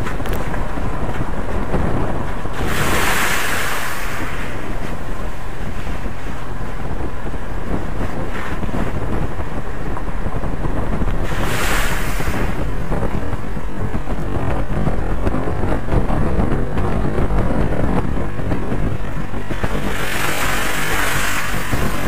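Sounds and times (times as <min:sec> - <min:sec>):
hissing wind rushes: 0:00.0 - 0:22.0
wind buffeting microphone: 0:00.0 - 0:22.0.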